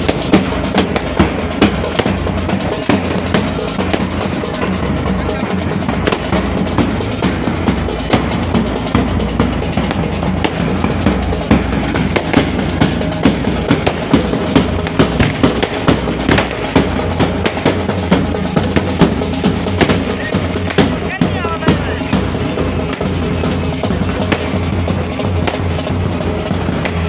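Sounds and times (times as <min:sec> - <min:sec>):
pipe band drums beating: 0:00.0 - 0:27.0.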